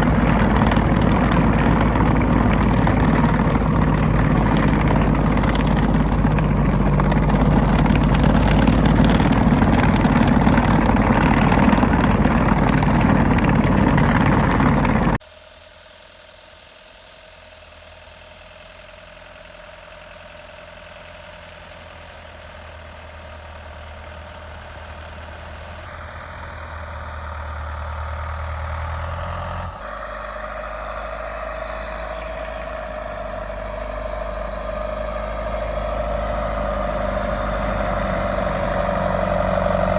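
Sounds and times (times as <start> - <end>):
diesel engine running: 0.0 - 15.2, 17.4 - 39.9.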